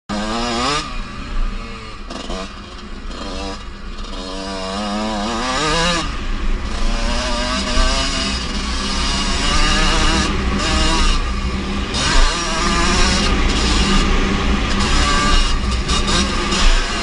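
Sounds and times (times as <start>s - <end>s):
two-stroke motorbike engine revving: 0.1s - 17.0s.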